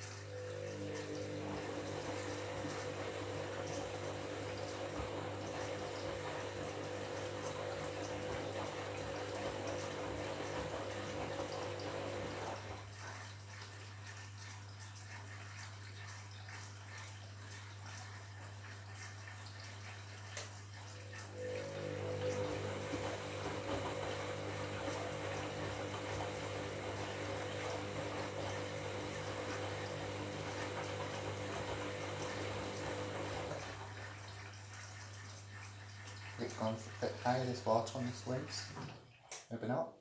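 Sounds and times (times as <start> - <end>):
water rushing into washing machine: 0.0 - 39.8.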